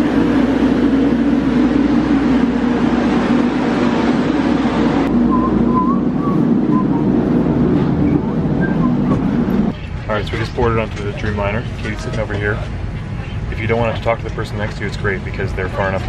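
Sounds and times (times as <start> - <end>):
airliner cabin drone: 0.0 - 16.0.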